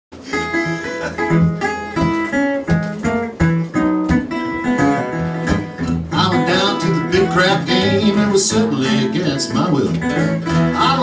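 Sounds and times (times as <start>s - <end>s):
acoustic guitars picking: 0.1s - 11.0s.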